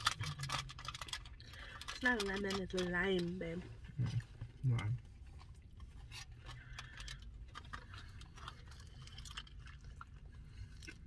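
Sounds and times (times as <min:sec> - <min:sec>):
chewing crispy taco: 0:00.0 - 0:11.0.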